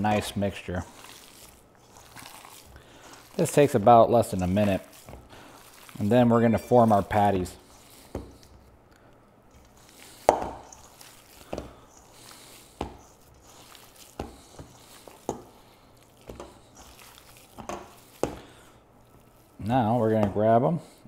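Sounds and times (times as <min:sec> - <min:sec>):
hands squelching ground meat: 0:00.0 - 0:21.0.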